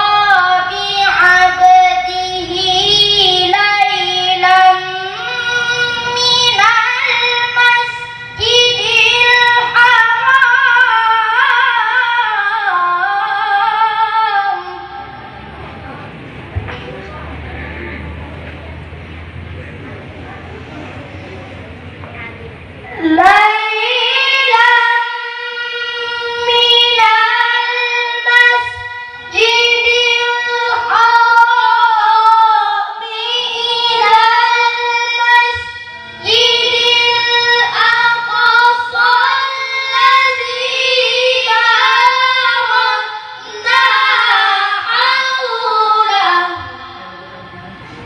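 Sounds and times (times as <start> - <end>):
boy reciting melodically: 0.0 - 18.2, 22.0 - 48.0.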